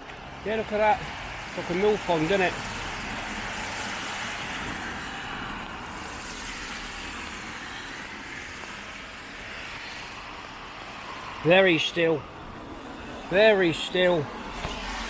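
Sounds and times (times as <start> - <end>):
traffic hiss on wet road: 0.0 - 15.0.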